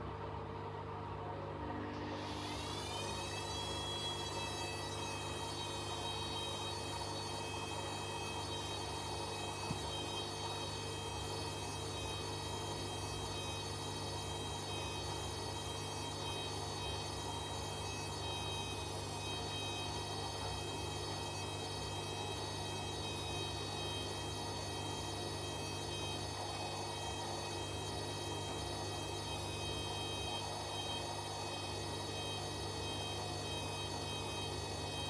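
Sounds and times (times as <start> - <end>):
washing machine humming: 0.0 - 35.0.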